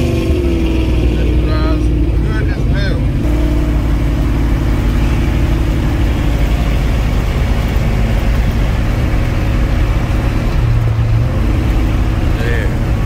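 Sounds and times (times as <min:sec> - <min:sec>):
car engine drone: 0:00.0 - 0:13.0
tyre and road noise: 0:00.0 - 0:13.0.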